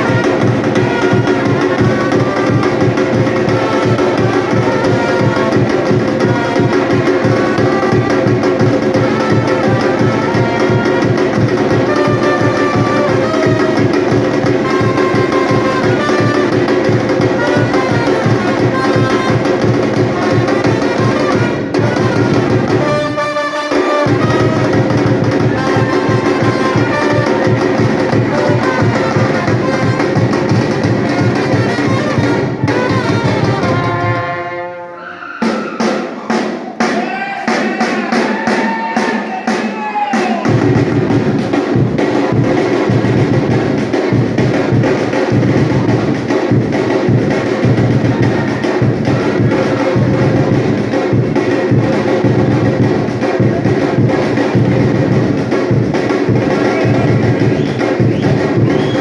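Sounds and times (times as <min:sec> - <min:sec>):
samba drum group playing: 0:00.0 - 0:59.0.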